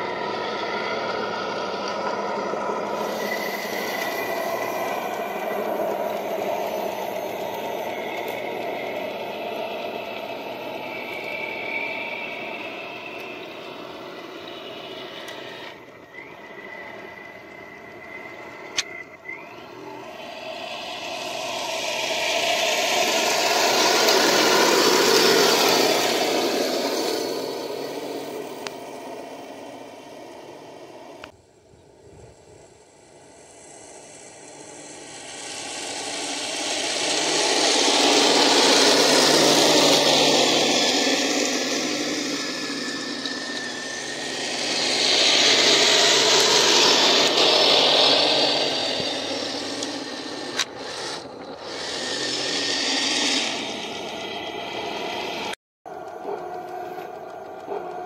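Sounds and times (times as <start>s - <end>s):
toy tank motor running: 0.0s - 31.3s, 33.1s - 58.0s.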